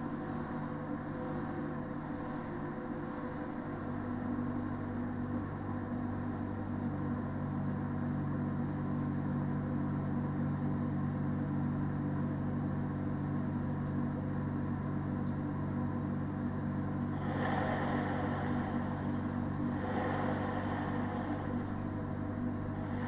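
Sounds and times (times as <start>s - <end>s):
refrigeration unit running: 0.0s - 23.0s.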